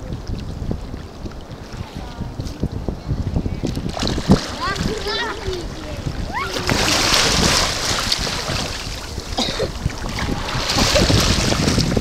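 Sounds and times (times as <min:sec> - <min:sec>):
seawater lapping: 0:00.0 - 0:12.0
wind buffeting microphone: 0:00.0 - 0:12.0.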